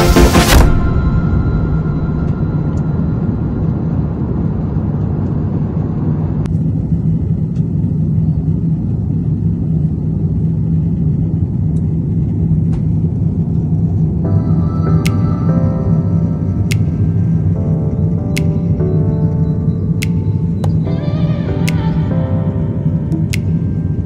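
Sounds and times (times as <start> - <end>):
steady low hum: 0.0 - 24.0
airliner cabin engine rumble: 0.9 - 24.0.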